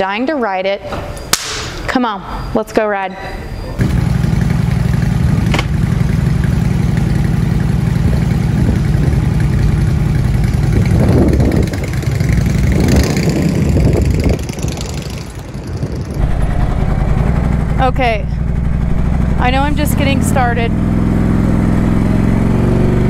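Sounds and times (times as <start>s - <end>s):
motorcycle idling and revving: 3.8s - 23.0s.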